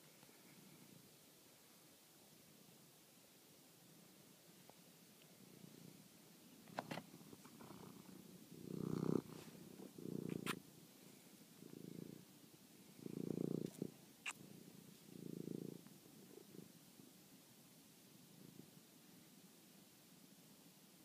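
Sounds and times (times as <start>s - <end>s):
cat purring: 3.8s - 21.0s.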